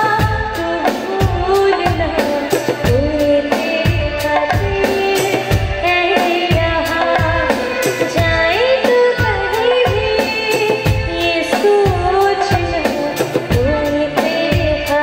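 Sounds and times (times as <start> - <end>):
girl singing into a microphone: 0.0 - 15.0
music accompaniment: 0.0 - 15.0.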